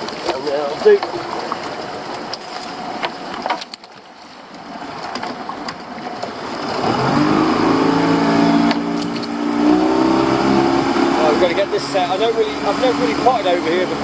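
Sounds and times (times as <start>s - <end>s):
outboard motor speeding up: 0.0s - 14.0s.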